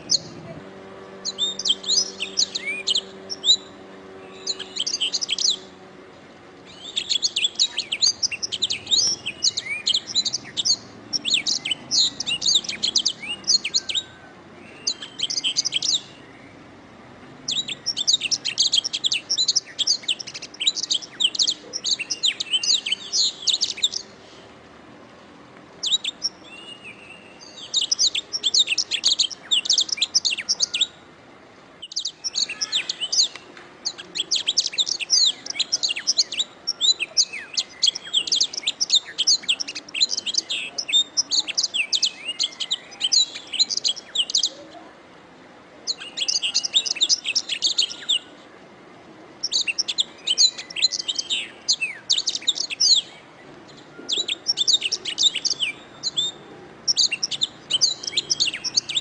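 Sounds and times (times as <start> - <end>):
canary singing trills: 0.0 - 6.0, 6.6 - 16.8, 17.4 - 24.2, 25.8 - 31.1, 31.8 - 44.9, 45.9 - 48.4, 49.4 - 59.0.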